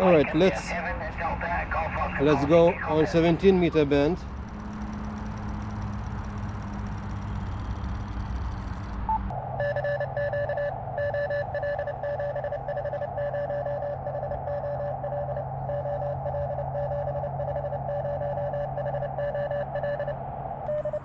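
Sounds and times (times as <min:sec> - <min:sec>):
morse code tone: 0:00.0 - 0:21.0.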